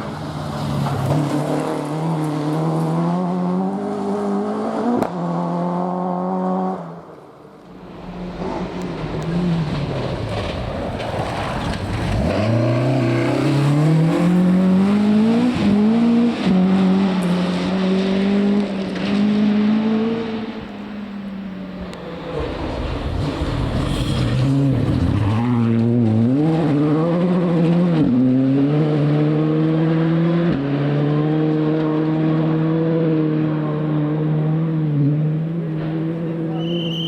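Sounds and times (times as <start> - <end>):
rally car engine revving: 0.0 - 7.1, 7.9 - 36.9.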